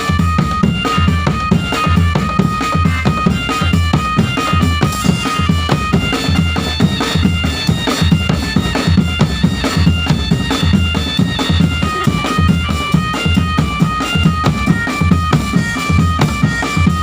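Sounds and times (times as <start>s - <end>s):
bass drum beats: 0.0s - 17.0s
reedy wind melody: 0.0s - 17.0s.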